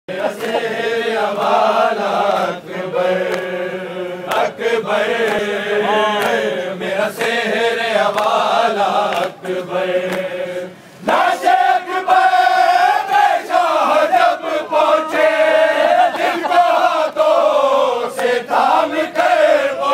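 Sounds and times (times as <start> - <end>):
crowd of men chanting: 0.1 - 19.9.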